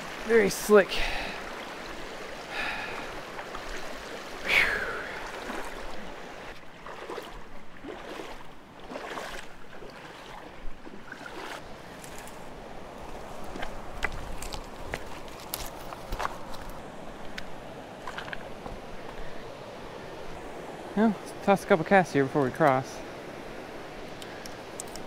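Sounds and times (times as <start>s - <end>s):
feet wading through water: 0.0s - 20.5s
creek running over rocks: 0.0s - 25.0s.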